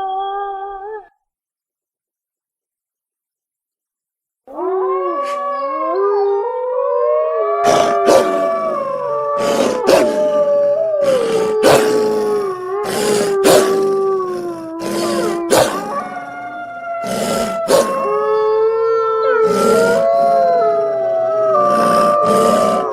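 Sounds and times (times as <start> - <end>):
wolves howling: 4.5 - 22.9.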